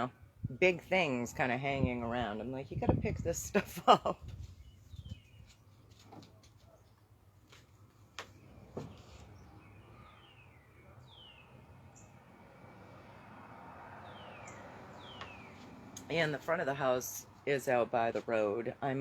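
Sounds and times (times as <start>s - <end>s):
soft outdoor background hiss: 0.0s - 19.0s.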